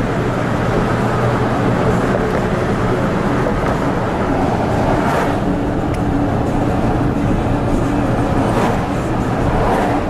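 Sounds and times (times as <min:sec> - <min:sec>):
low engine hum: 0:00.0 - 0:10.0
tyres on pavement: 0:00.0 - 0:10.0.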